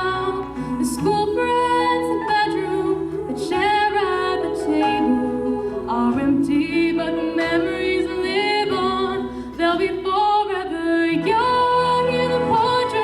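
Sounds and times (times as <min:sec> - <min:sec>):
slow singing with held notes: 0:00.0 - 0:13.0.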